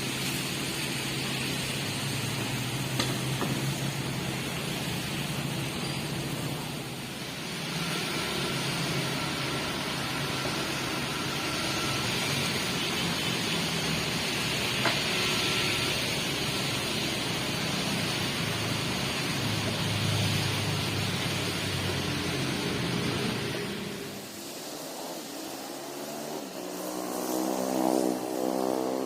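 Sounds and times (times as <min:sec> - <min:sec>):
heavy vehicle engine humming: 0:00.0 - 0:24.4
machinery hiss: 0:00.0 - 0:29.0.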